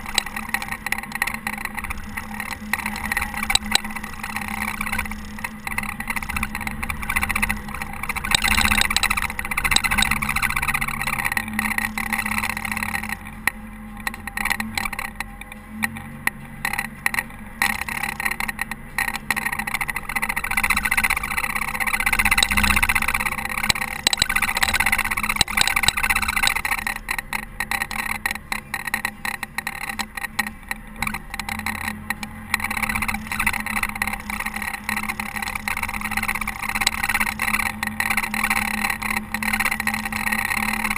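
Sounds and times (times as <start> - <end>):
diesel engine running: 0.0 - 40.9
short clicks and rattles: 0.0 - 40.9.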